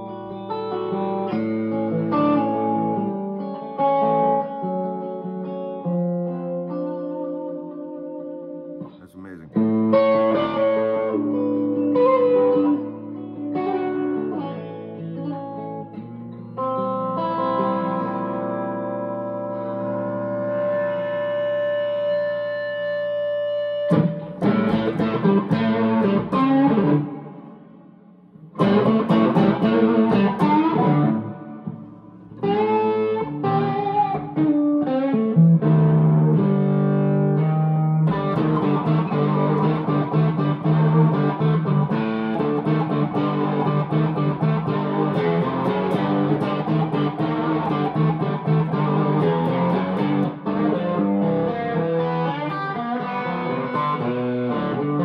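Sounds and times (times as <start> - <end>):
electric guitar through amplifier: 0.0 - 55.0.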